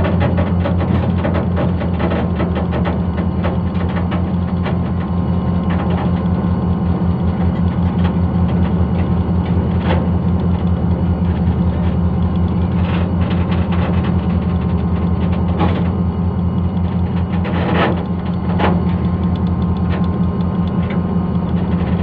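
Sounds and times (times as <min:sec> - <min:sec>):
diesel locomotive engine drone: 0:00.0 - 0:22.0
train clanks: 0:00.0 - 0:22.0.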